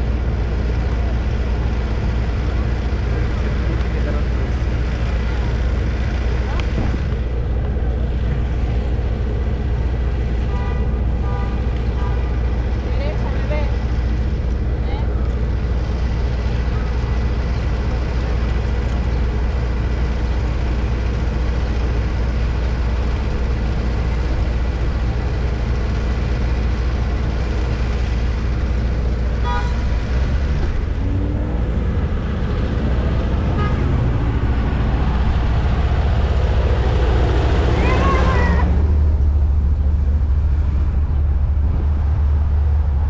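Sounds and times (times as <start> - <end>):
wind and road rumble: 0.0 - 43.0.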